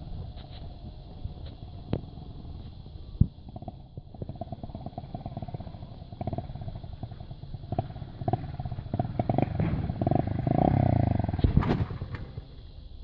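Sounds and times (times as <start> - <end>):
small motorcycle passing by: 1.6 - 12.7.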